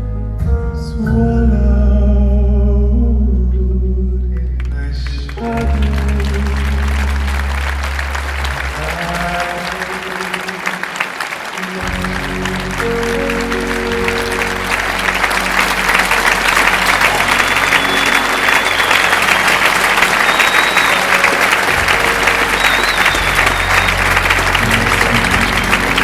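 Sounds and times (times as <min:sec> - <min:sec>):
sustained music notes: 0:00.0 - 0:26.0
audience applauding: 0:04.6 - 0:26.0.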